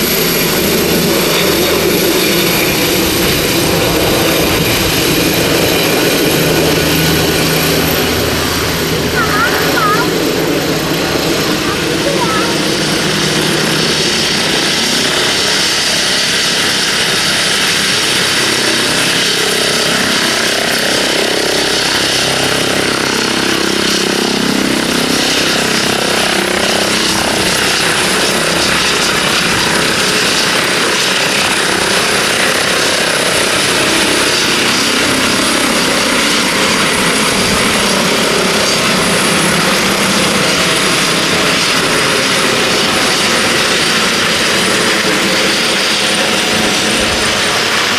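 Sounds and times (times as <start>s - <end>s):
helicopter turbine and rotor: 0.0s - 47.9s.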